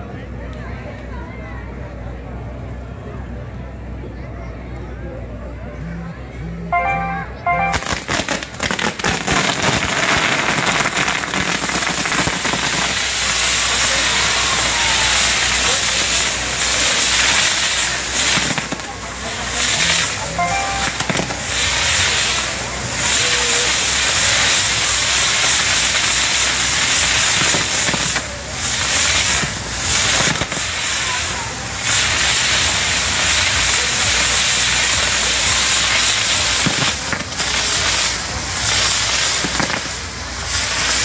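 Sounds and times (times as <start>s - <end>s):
crackling and hissing fireworks: 6.8s - 41.0s
firecracker cracks: 7.6s - 41.0s.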